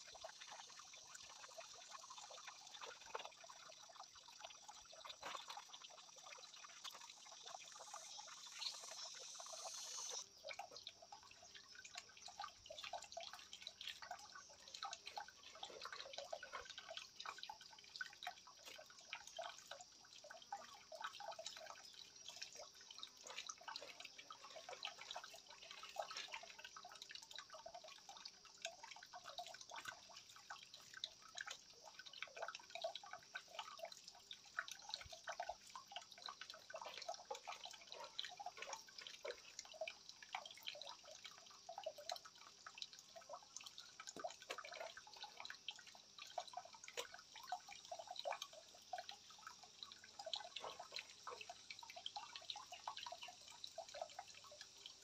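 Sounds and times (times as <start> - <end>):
water dripping and trickling: 0.0 - 55.0.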